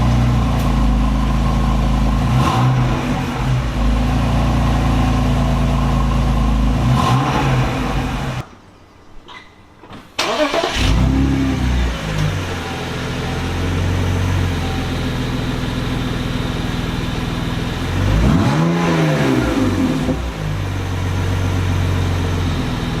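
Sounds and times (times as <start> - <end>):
car exhaust idling deeply: 0.0 - 8.4, 11.4 - 23.0
engine revving: 0.0 - 8.4, 10.2 - 23.0.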